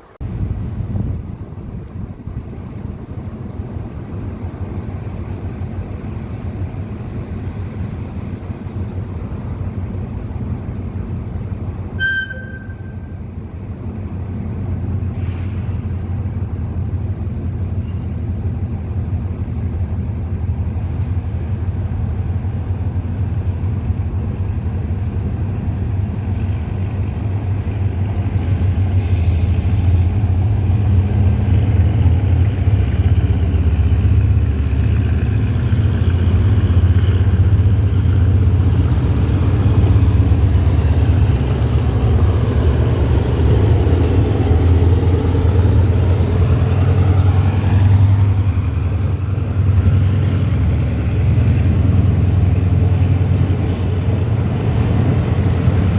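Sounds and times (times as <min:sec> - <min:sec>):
diesel train engine rumbling: 0:00.0 - 0:55.9.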